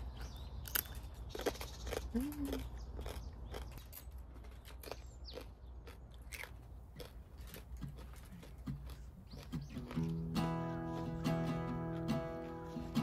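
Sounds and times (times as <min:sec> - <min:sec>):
crunchy snack being chewed: 0:00.0 - 0:11.2.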